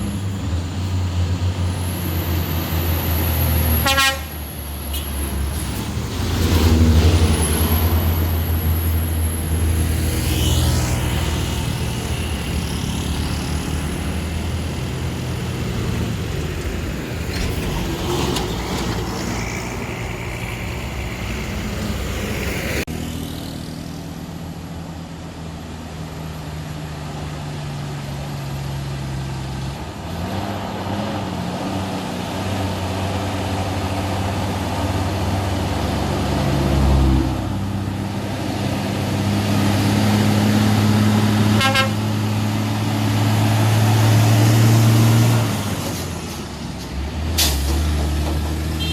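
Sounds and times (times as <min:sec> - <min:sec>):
heavy diesel engines revving: 0:00.0 - 0:48.9.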